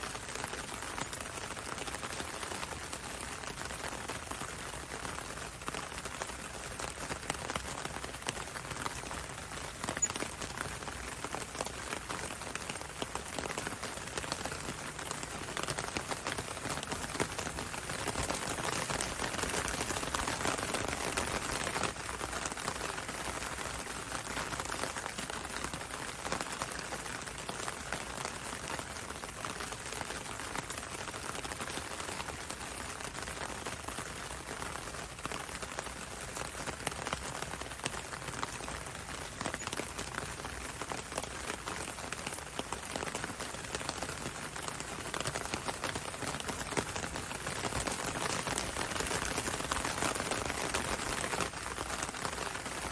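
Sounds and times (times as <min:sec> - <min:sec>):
rain on window and road: 0:00.0 - 0:52.9.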